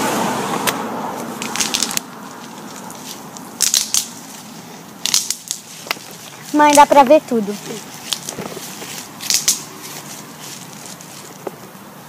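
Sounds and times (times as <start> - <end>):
dry crackling crunching: 1.2 - 11.8.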